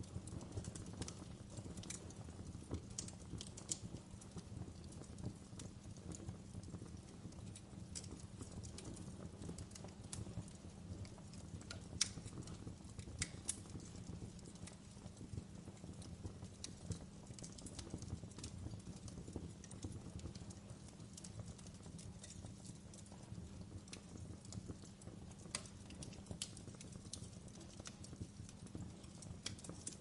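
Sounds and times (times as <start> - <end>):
fire crackling and popping: 0.0 - 30.0
low steady fire rumble: 0.0 - 30.0.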